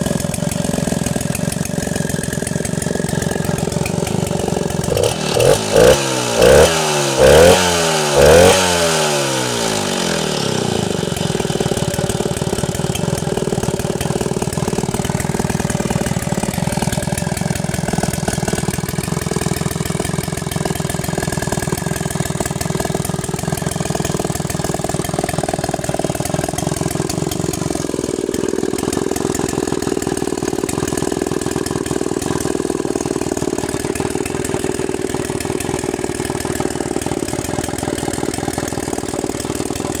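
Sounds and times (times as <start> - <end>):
chainsaw engine revving and idling: 0.0 - 40.0.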